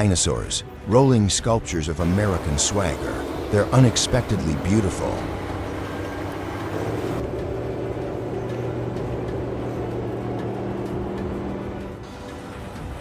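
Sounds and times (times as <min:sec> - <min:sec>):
large engine humming steadily: 0:02.0 - 0:13.0.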